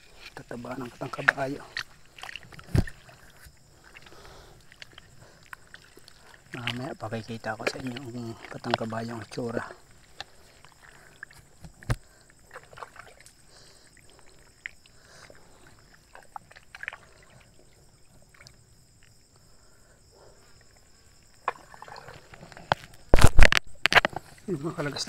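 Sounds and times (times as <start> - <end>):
insects trilling: 0.0 - 25.0
splashes of wading in water: 0.0 - 25.0.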